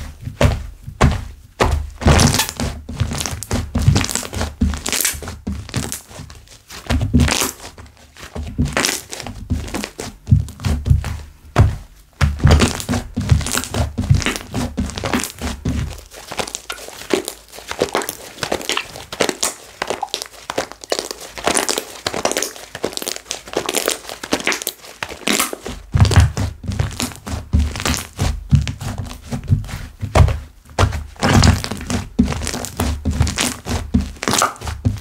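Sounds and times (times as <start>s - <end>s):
slime squishing with bubbles popping: 0.0s - 35.0s.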